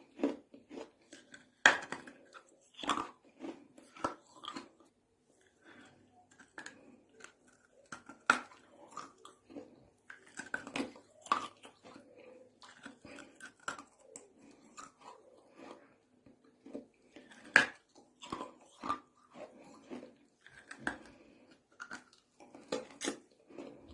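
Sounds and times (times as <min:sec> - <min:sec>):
person chewing brick: 0:00.0 - 0:23.9.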